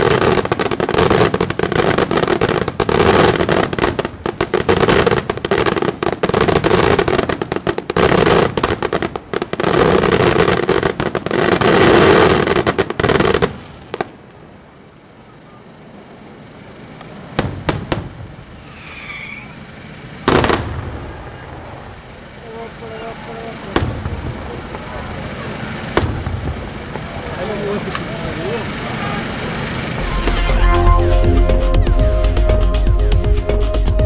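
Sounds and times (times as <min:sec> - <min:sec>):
fireworks bursts and crackling: 0:00.0 - 0:34.0.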